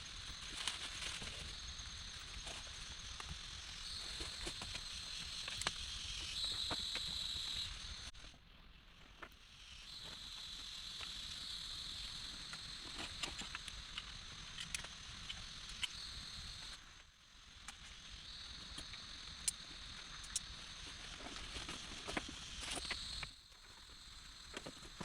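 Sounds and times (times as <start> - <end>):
high insect drone: 0.0 - 8.4, 9.0 - 25.0.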